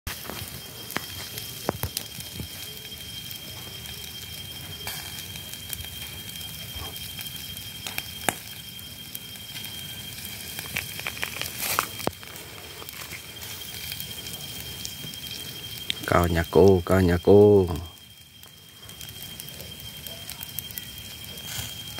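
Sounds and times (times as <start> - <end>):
charcoal embers crackling: 0.1 - 21.9
grilling hiss: 0.1 - 21.9.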